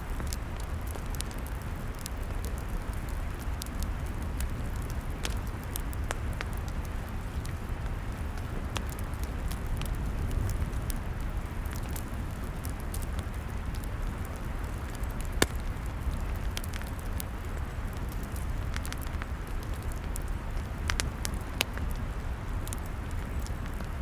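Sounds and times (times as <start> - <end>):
log fire crackling: 0.0 - 24.0.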